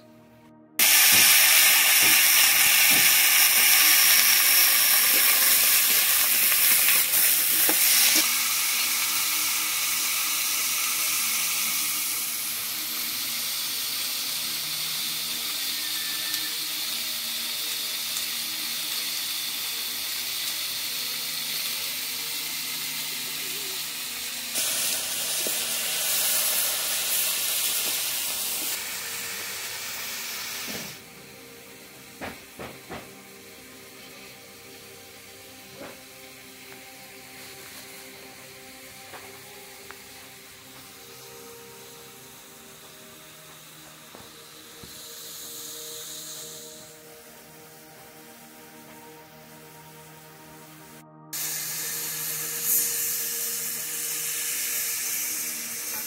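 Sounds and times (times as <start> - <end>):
vegetables sizzling in hot oil: 0.8 - 50.1, 51.4 - 56.0.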